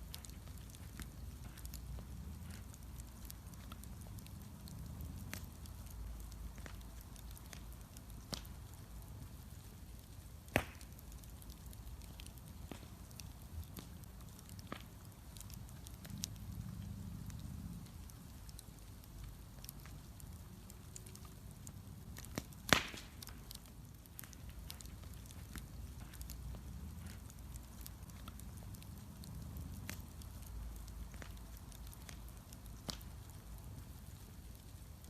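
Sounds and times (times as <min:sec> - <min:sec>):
low steady rumble: 0:00.0 - 0:10.4, 0:11.2 - 0:35.0
bonfire crackling: 0:00.0 - 0:35.0.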